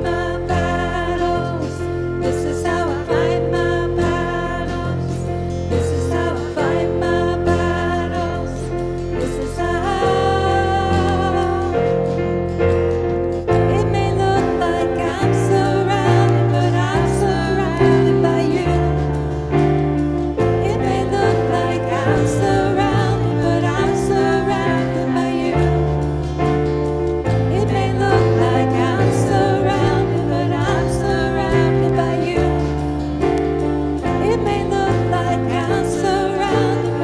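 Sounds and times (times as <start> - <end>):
person singing: 0.0 - 12.7, 13.4 - 37.0
bass: 0.0 - 37.0
keyboard chords: 0.0 - 37.0.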